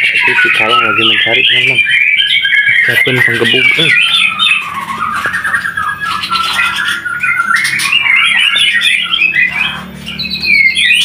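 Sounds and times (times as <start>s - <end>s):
starling chattering alarm calls: 0.0s - 11.0s.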